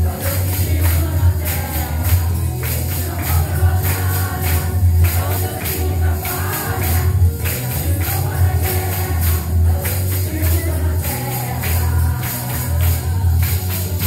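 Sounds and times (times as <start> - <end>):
heavy bass line: 0.0 - 14.0
tambourine shaken: 0.0 - 14.0
women's choir singing: 0.0 - 14.0.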